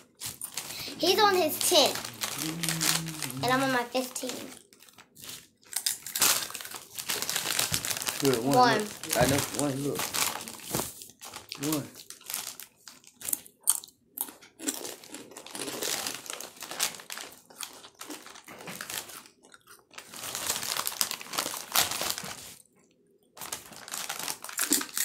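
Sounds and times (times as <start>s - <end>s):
tortilla chips crunching: 0.0s - 3.6s, 4.2s - 22.6s, 23.4s - 25.0s
foil chip bag crinkling: 0.0s - 13.5s, 14.6s - 22.6s, 23.4s - 25.0s.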